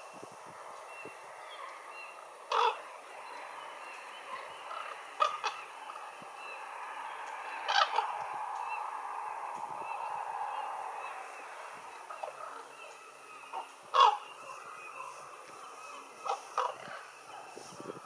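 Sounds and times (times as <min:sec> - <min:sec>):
ravens calling: 0:00.0 - 0:18.0.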